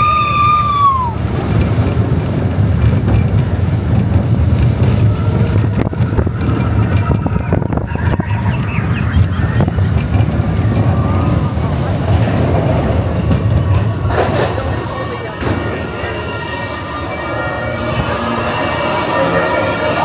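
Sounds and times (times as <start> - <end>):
roller coaster wheels rumbling: 0.0 - 20.0
wind buffeting microphone: 0.0 - 20.0.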